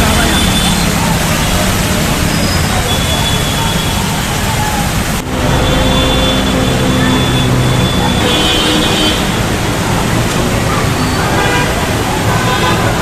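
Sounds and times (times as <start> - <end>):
heavy rain: 0.0 - 13.0
vehicle engines running: 0.0 - 13.0.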